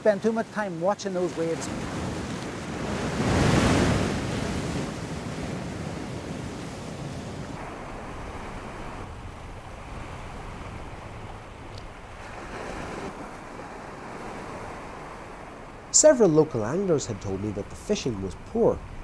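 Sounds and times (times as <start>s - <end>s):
surf washing off rocks: 0.0s - 19.0s
waves crashing on rocks: 0.0s - 19.0s.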